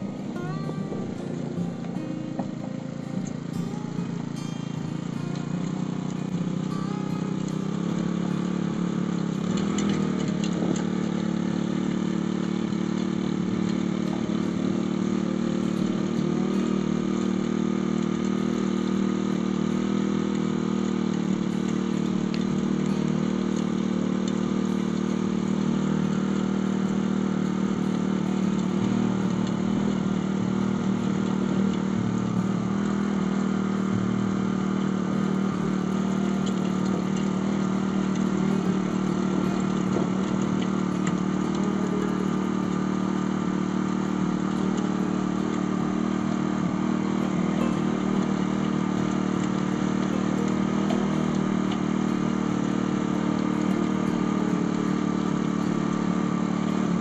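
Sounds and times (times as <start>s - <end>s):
tiller engine running: 0.0s - 57.0s
tines digging through soil: 0.0s - 57.0s.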